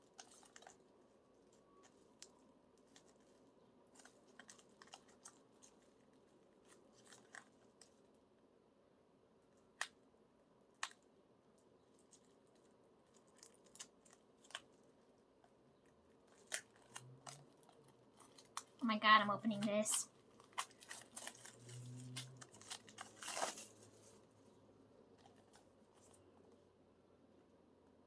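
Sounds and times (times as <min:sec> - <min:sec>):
plastic packaging crackling: 0:00.0 - 0:08.2, 0:10.7 - 0:26.6.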